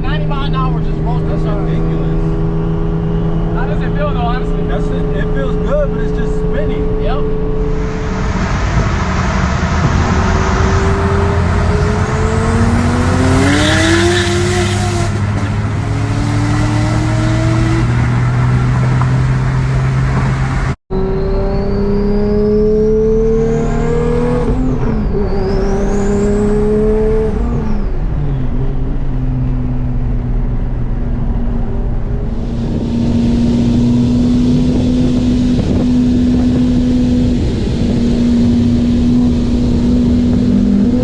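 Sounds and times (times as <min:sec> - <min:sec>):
car engine accelerating hard: 0:00.0 - 0:41.0.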